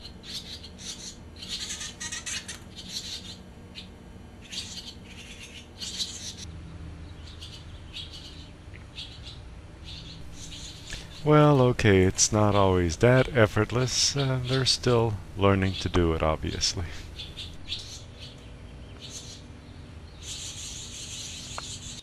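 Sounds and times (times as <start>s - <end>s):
swallows chirping: 0.0s - 22.0s.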